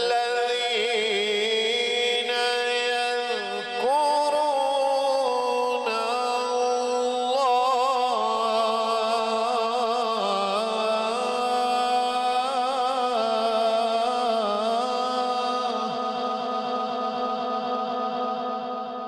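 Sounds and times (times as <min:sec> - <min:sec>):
man reciting melodically into microphone: 0:00.0 - 0:19.0.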